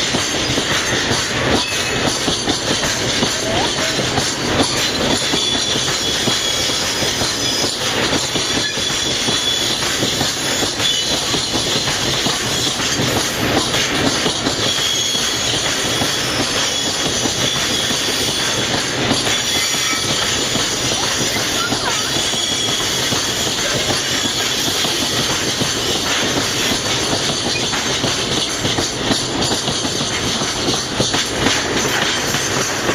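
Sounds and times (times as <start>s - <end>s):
train wheels clattering over rail joints: 0.0s - 32.9s
high wheel squeal: 0.4s - 28.5s.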